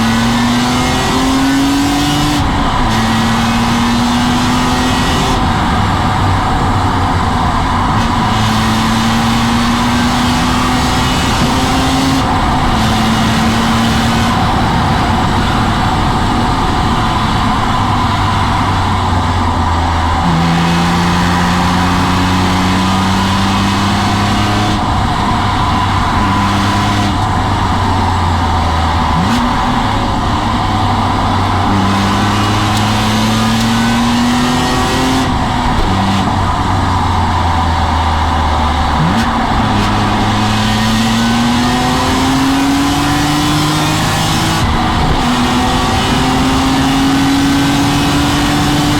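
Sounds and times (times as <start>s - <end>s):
car engine revving through gears: 0.0s - 48.9s
road and wind noise: 0.0s - 48.9s.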